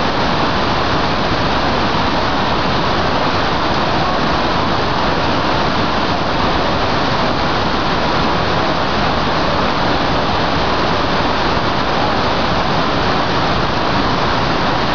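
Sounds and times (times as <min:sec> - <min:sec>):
waterfall roaring: 0:00.0 - 0:14.9.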